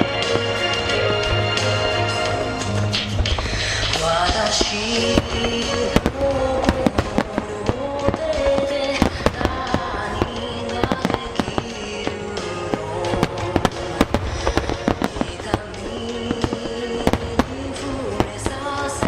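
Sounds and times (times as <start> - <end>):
firework shells bursting: 0.0 - 19.0
music playing: 0.0 - 19.0.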